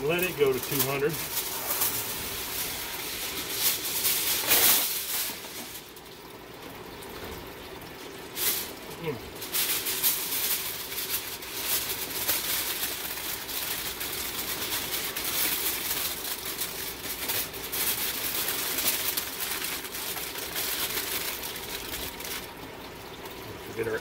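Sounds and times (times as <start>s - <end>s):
aluminium foil crinkling: 0.0s - 6.2s, 8.3s - 22.6s.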